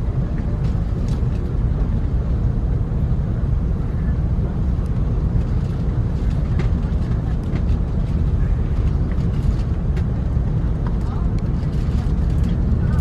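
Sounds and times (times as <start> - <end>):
low rumble in aircraft cabin: 0.0 - 13.0.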